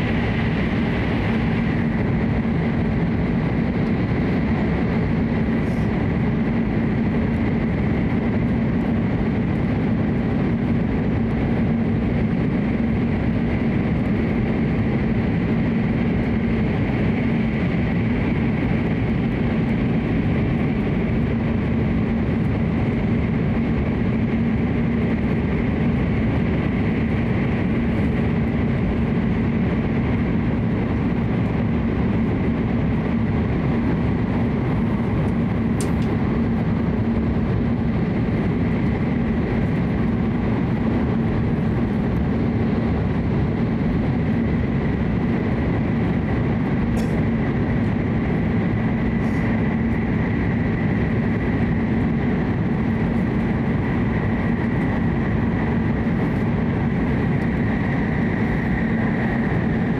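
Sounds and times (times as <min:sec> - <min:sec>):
train rumble inside passenger car: 0:00.0 - 0:59.9.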